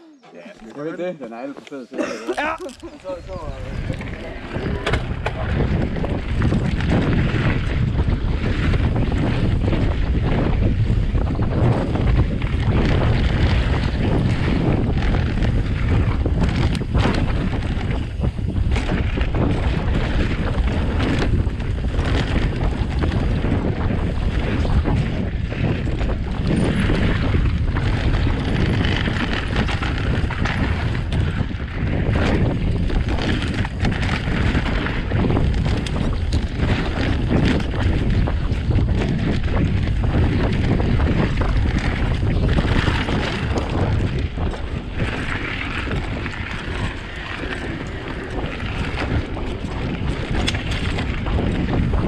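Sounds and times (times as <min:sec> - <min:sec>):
wind buffeting microphone: 0:02.0 - 0:52.0.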